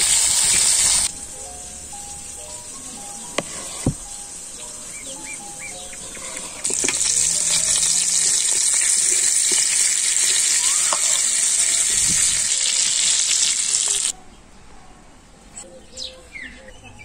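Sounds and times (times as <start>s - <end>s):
meat and potatoes sizzling in fat: 0.0s - 14.2s.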